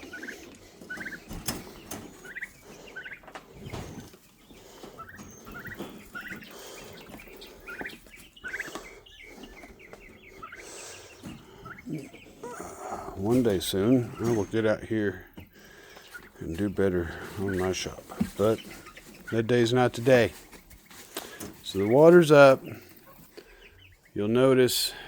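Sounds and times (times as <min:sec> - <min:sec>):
young turkeys peeping: 0:00.0 - 0:25.0.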